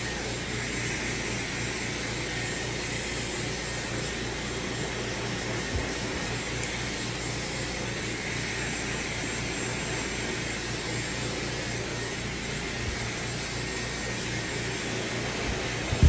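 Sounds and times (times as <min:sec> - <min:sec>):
hair dryer blowing: 0:00.0 - 0:16.0.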